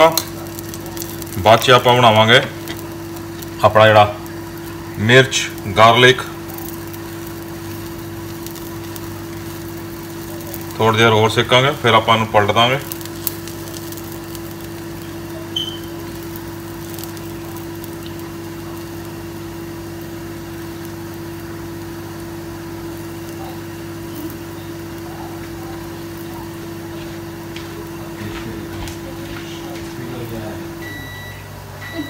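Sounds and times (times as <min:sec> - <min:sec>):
kitchen appliance motor humming: 0:00.0 - 0:32.0.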